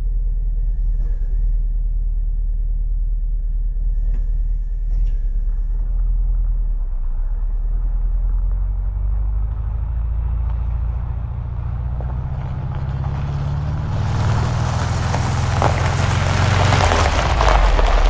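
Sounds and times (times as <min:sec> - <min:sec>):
van engine and road drone: 0:00.0 - 0:18.0.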